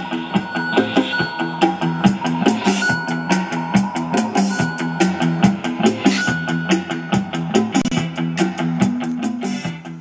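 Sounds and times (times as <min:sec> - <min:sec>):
music with drum beat from speakers: 0:00.0 - 0:10.0.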